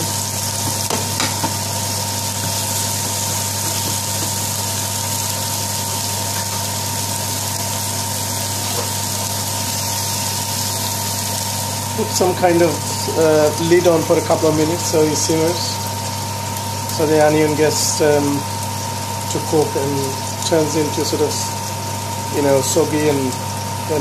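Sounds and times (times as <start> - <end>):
onions sizzling in a frying pan: 0.0 - 24.0.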